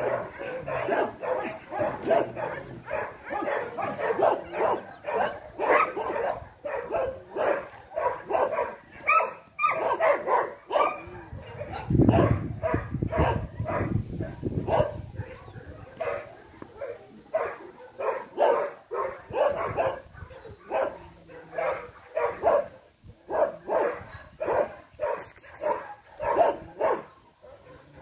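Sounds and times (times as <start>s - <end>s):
dog barking and yipping: 0.0s - 28.0s.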